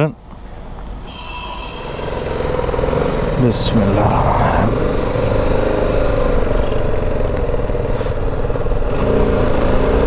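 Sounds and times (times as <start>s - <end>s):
wind and road noise: 0.2s - 1.1s, 1.8s - 10.0s
motorcycle engine accelerating: 1.2s - 10.0s.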